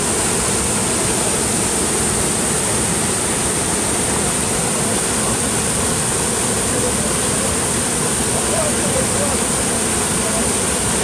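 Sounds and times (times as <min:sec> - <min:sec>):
floodwater gushing from pipes: 0:00.0 - 0:11.0.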